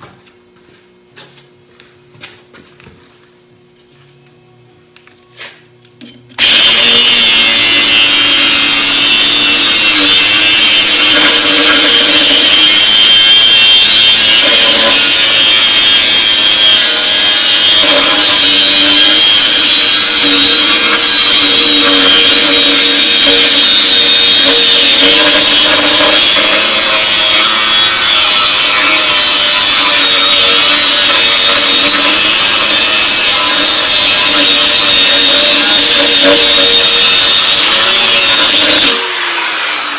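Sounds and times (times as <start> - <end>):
angle grinder grinding steel: 6.4 - 39.9.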